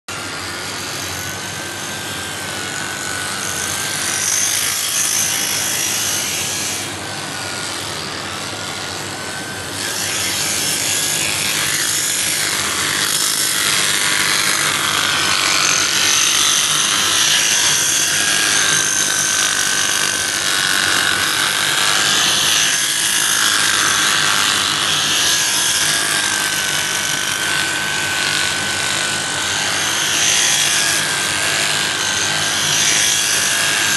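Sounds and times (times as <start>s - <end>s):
electric sheep shears whining: 0.1s - 33.9s.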